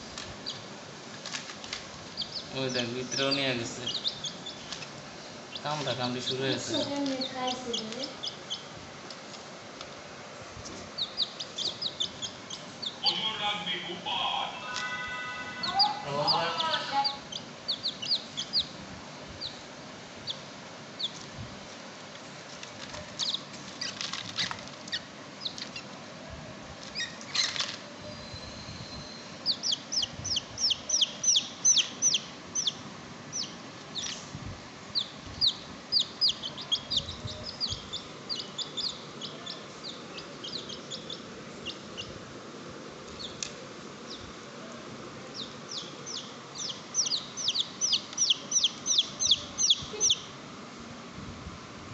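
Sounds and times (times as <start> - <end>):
baby chicks peeping: 0.0 - 8.9, 10.6 - 21.4, 22.4 - 26.0, 26.8 - 42.3, 43.0 - 44.5, 45.3 - 50.4.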